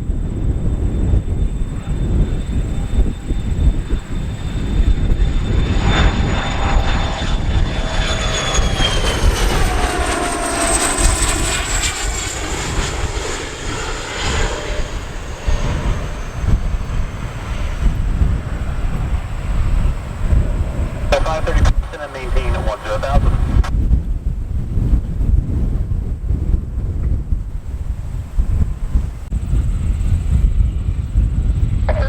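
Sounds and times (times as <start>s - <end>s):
airplane engine whine passing: 0.0s - 32.0s
wind buffeting microphone: 0.0s - 32.0s.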